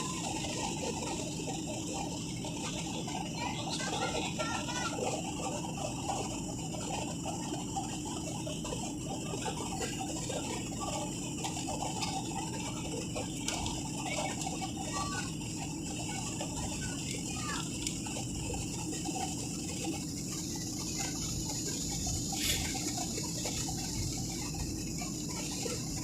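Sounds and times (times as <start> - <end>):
engine and airflow rumble: 0.0 - 26.0.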